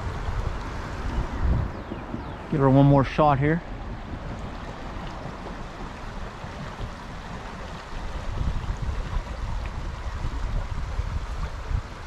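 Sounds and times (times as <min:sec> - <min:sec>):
low irregular rumble: 0:00.0 - 0:12.0
stream water rushing: 0:00.0 - 0:12.0.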